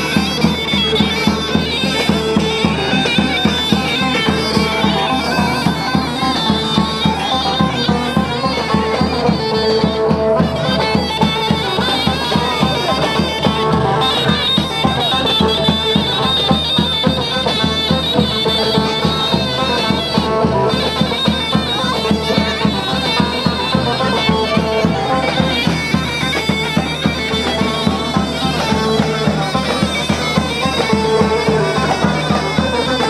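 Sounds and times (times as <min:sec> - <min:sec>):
shrill shawm melody: 0:00.0 - 0:33.0.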